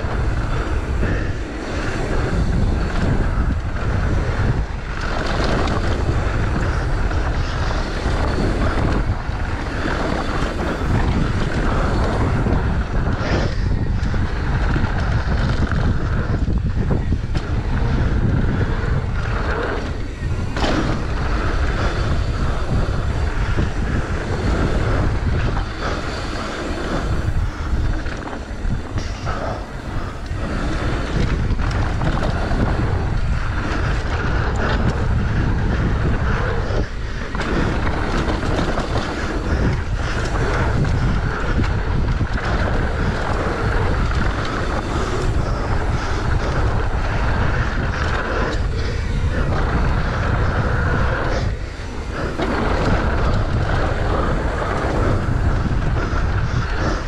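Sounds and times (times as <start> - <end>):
bike tyres rolling over gravel: 0.0 - 57.0
wind buffeting microphone: 0.0 - 57.0.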